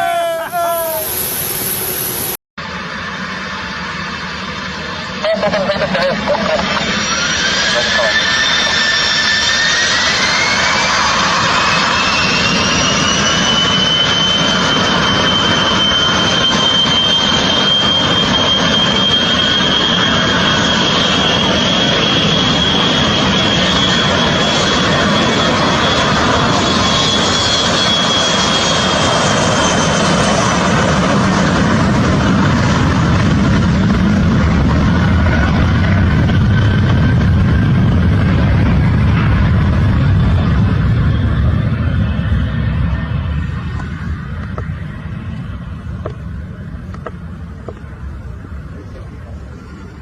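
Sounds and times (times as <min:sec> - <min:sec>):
jet engine whine: 0:00.0 - 0:50.0.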